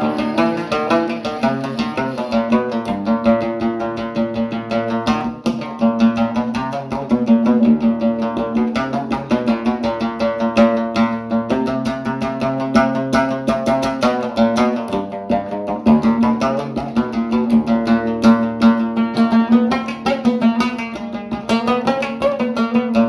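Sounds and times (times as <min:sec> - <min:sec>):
plucked string instrument music: 0:00.0 - 0:23.0.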